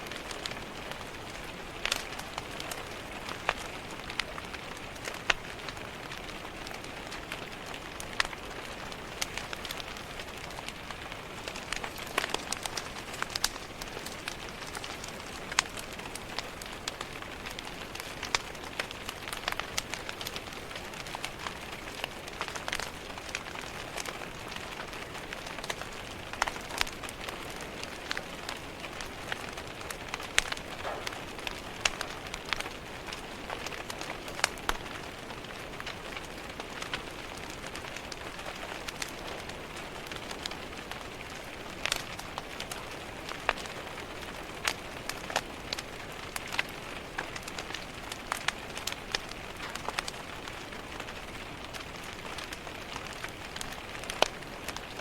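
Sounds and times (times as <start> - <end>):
rain tapping on window: 0.0 - 55.0
wood fire crackling: 0.0 - 55.0.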